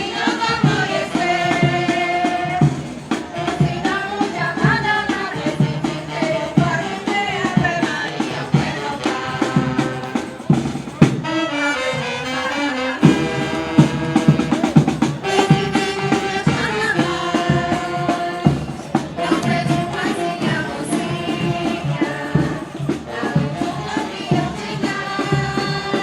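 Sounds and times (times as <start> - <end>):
carnival band playing march: 0.0 - 26.0
drum beats: 0.0 - 26.0
people singing: 0.0 - 26.0.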